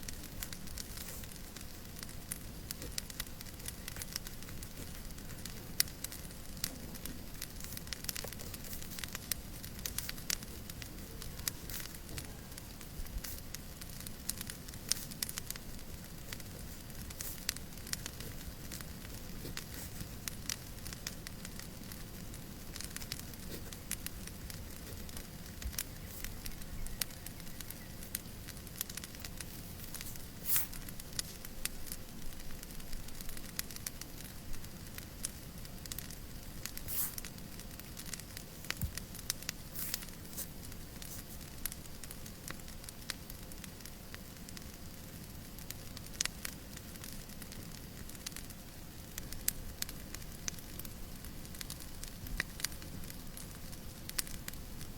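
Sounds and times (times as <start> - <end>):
fireplace crackling and popping: 0.0 - 54.9
soft hiss of white noise: 0.0 - 54.9.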